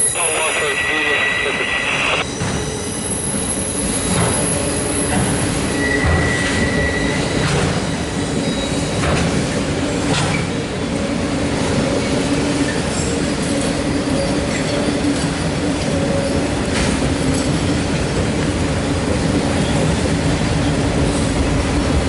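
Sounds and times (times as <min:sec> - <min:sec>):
train wheels rumbling on rail: 0:02.2 - 0:22.0.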